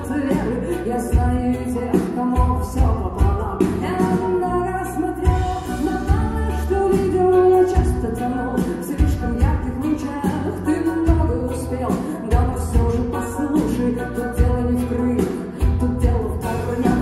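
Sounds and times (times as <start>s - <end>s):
live band playing: 0.0s - 17.0s
woman singing: 0.0s - 17.0s.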